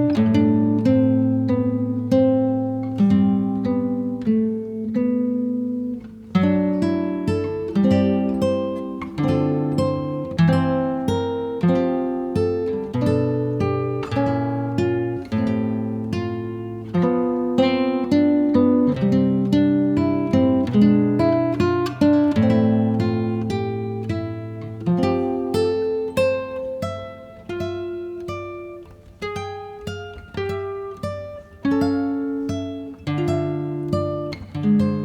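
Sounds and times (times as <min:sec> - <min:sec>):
acoustic guitar chords: 0:00.0 - 0:35.0.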